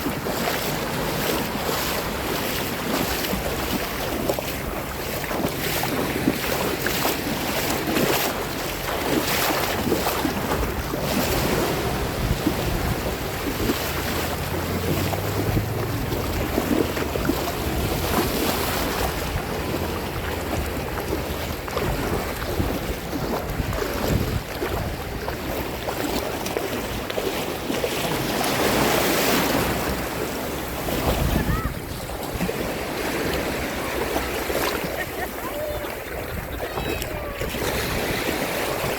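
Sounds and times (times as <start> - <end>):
sea water lapping in waves: 0.0 - 38.9
wind buffeting microphone: 0.0 - 38.9.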